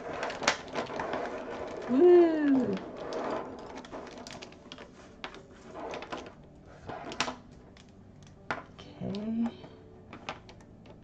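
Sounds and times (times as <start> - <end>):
pens clacking on tabletop: 0.0 - 11.0
plastic pens tapping on wood: 0.0 - 11.0.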